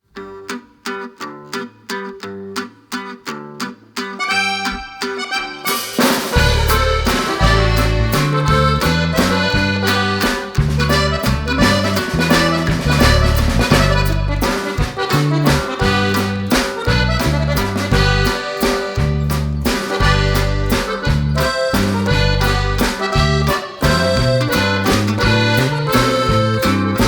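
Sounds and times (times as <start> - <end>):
upbeat accordion music with bass: 4.2 - 27.0.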